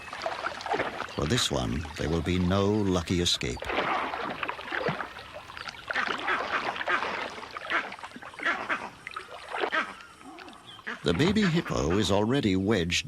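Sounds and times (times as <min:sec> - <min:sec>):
water splashing: 0:00.0 - 0:12.4.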